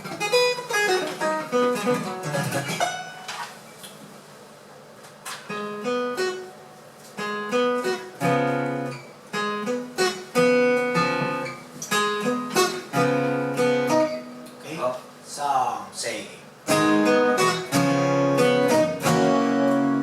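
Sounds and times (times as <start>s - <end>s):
acoustic guitar playing: 0.0s - 3.8s, 5.1s - 14.6s, 16.6s - 20.0s.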